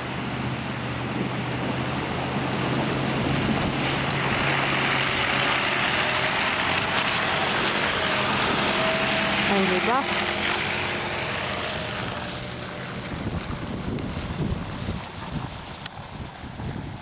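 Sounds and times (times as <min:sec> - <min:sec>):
vehicle engine running: 0:00.0 - 0:17.0
water rushing and splashing: 0:00.0 - 0:17.0.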